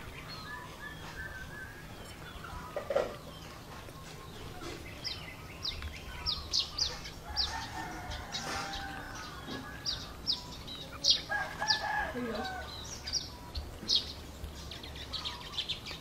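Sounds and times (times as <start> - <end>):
birds chirping: 0.0 - 16.0
lower bird calls: 0.0 - 16.0.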